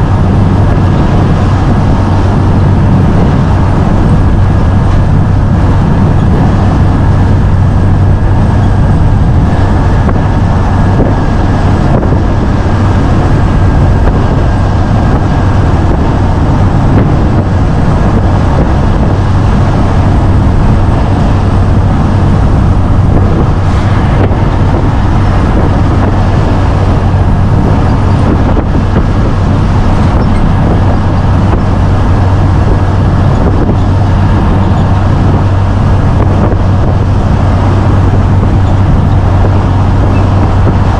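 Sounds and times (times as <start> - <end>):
road and tyre noise: 0.0 - 40.9
truck engine drone: 0.0 - 40.9.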